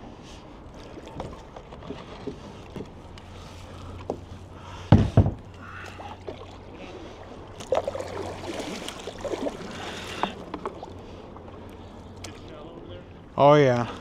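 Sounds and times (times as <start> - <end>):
water splashing against hull: 0.4 - 12.5.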